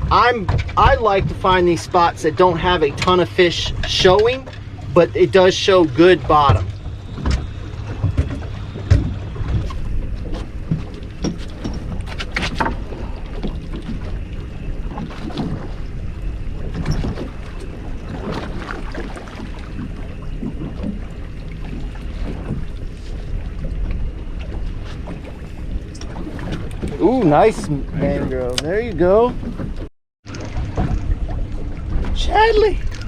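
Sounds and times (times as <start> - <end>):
low rumble of wind and water: 0.0 - 33.0.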